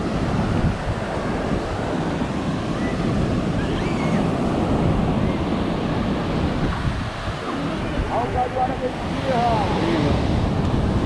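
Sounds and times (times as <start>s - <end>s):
ocean surf washing onto beach: 0.0s - 11.0s
wind buffeting microphone: 0.0s - 11.0s.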